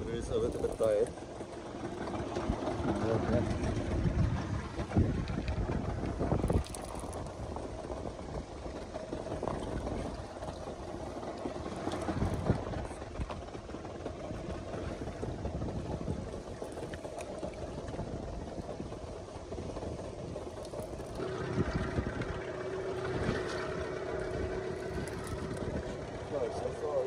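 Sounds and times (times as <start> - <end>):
boat engine idling: 0.0 - 27.0
water sloshing against hull: 0.0 - 27.0.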